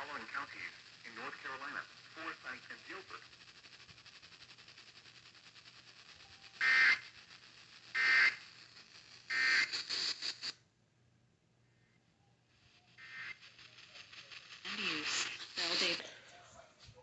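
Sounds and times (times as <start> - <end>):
buzzing digital data tones: 0.0 - 10.6, 12.3 - 16.2
radio hiss: 0.0 - 10.6, 11.6 - 17.0.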